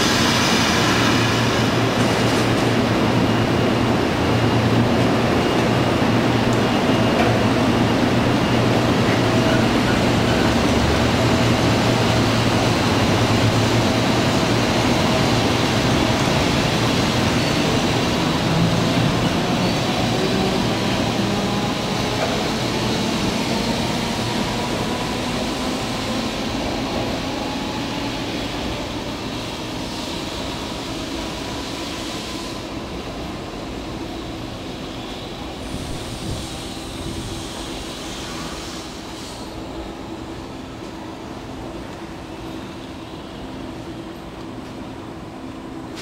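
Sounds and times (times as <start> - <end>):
train rolling on tracks: 0.0 - 46.0.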